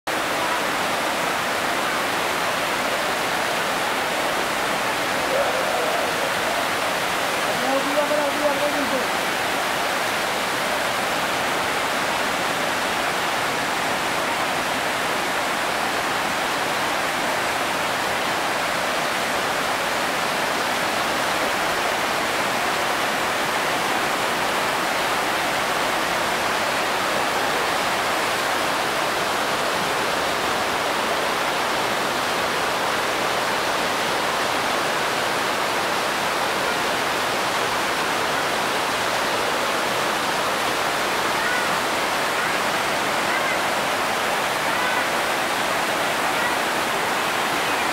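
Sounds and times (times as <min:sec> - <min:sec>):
white-water rapids rushing: 0:00.1 - 0:47.9.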